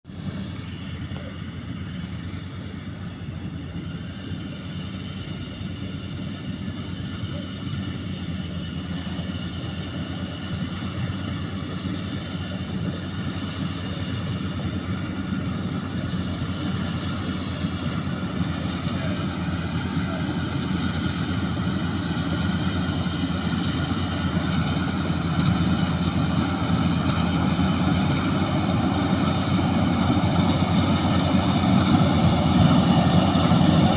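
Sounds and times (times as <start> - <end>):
combine harvester running: 0.0 - 33.9.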